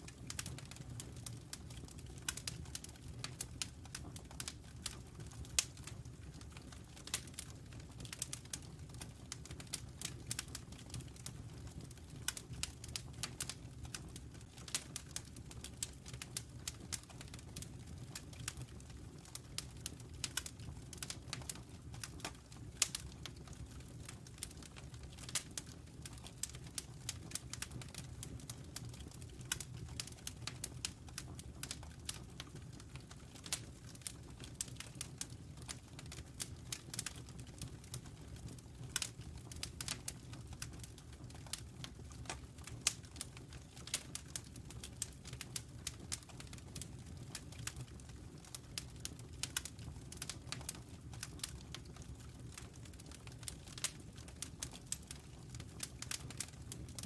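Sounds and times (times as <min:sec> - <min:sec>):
logs crackling in fireplace: 0:00.0 - 0:57.0.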